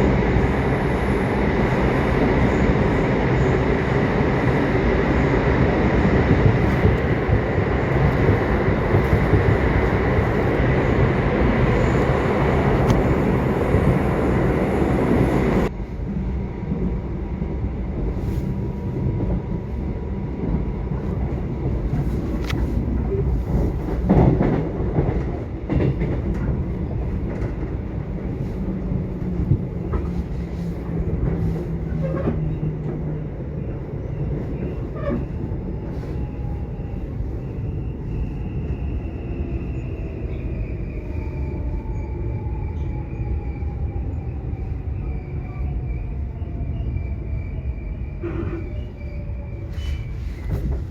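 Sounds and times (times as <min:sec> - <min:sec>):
subway train rumble: 0:00.0 - 0:50.9.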